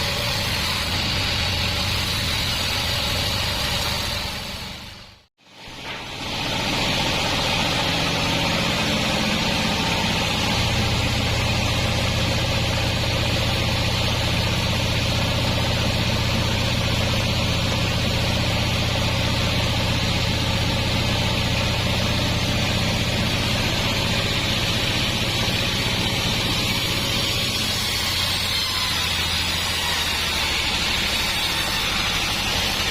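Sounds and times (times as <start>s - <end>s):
band sawmill engine drone: 0.0s - 32.9s.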